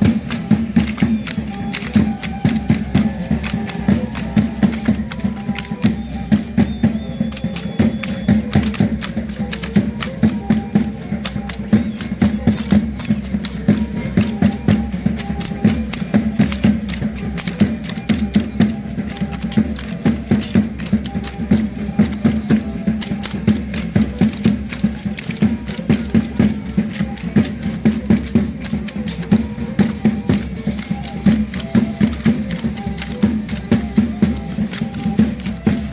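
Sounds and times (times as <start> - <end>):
low drum beat: 0.0 - 35.9
sharp rhythmic clicks: 0.0 - 35.9.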